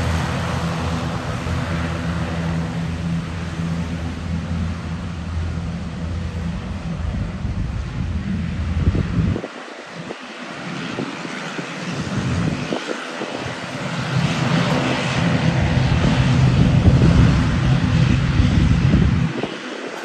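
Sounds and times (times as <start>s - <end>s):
turboprop engines droning: 0.0s - 20.0s.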